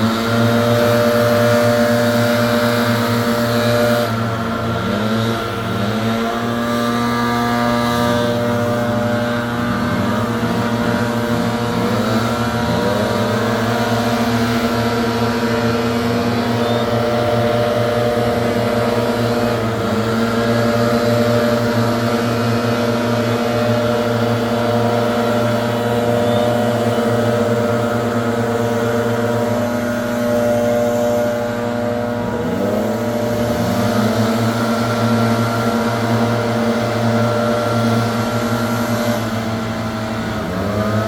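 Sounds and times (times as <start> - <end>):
leaf blower engine running: 0.0 - 41.0.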